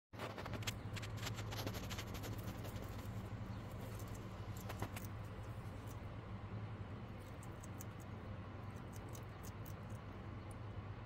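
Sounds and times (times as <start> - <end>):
low hum: 0.2 - 11.0
lizard chewing greens: 0.3 - 6.1, 7.0 - 10.6.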